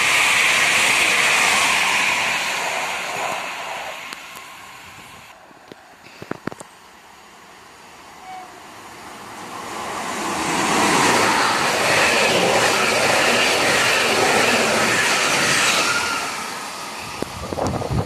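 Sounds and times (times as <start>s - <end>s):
train passing at speed: 0.0s - 6.0s, 6.8s - 18.0s.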